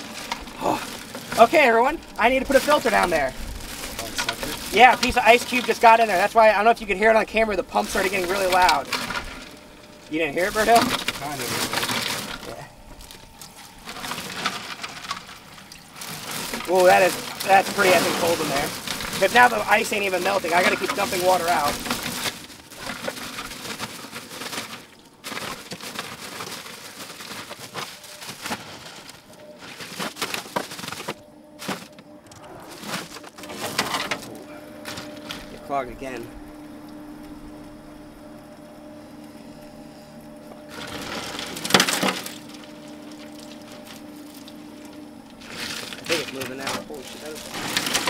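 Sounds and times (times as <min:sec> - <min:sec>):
ice cubes clattering into metal box: 0:00.0 - 0:32.0, 0:32.7 - 0:36.3, 0:40.7 - 0:48.0
plastic bag crinkling: 0:00.0 - 0:37.1, 0:40.6 - 0:48.0
steady low hum: 0:00.0 - 0:48.0.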